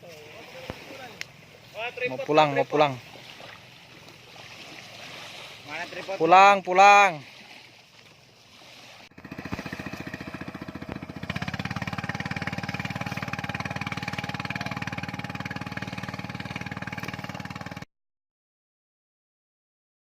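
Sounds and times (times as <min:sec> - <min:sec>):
boat engine running: 0:00.0 - 0:17.9.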